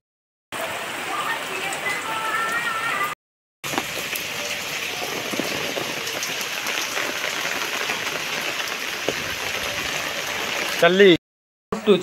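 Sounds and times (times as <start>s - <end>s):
rain falling on puddles: 0.6s - 11.2s.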